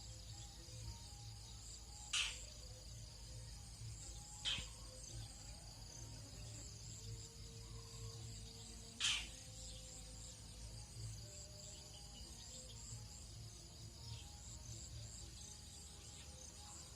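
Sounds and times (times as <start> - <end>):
insects buzzing trill: 0.0 - 16.9
raspy insect calls: 0.0 - 16.9.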